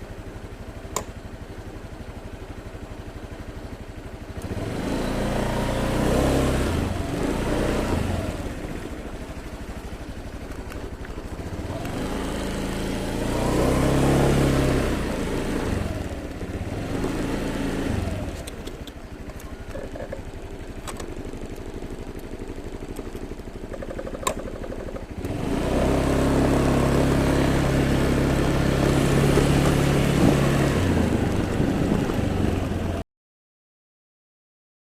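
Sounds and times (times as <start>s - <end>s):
motorbike engine accelerating: 0.0s - 33.0s.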